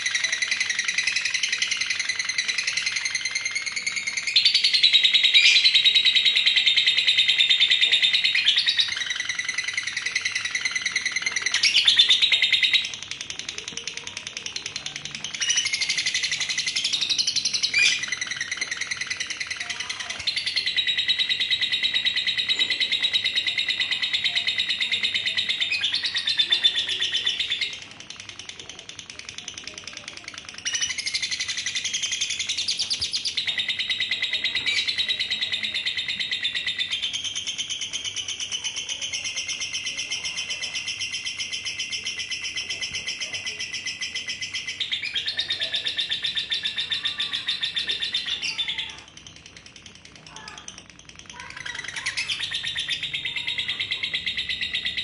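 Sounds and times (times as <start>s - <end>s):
lovebird chattering trill: 0.0s - 55.0s.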